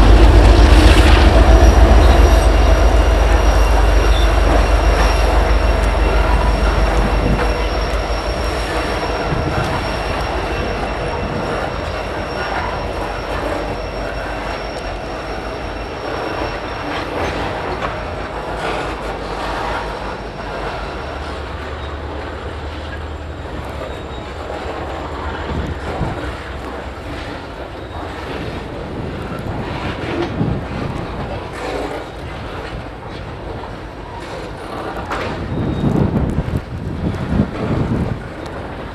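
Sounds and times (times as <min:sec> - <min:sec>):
train wheels knocking over rail joints: 0:00.0 - 0:38.9
wheel squeal: 0:00.0 - 0:38.9.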